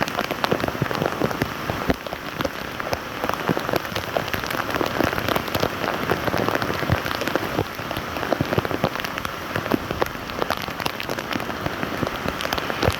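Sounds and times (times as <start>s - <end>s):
rain falling: 0.0s - 12.9s
raindrops ticking on a surface: 0.0s - 12.9s.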